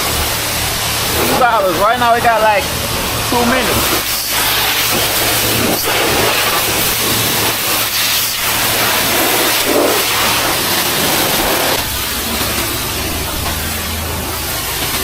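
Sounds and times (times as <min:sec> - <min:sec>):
high-pressure water spray: 0:00.0 - 0:15.0.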